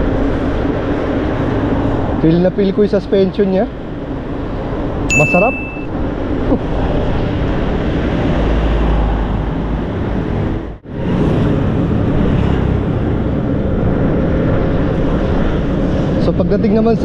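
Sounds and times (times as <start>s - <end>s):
wind buffeting microphone: 0.0s - 5.1s, 5.9s - 17.0s.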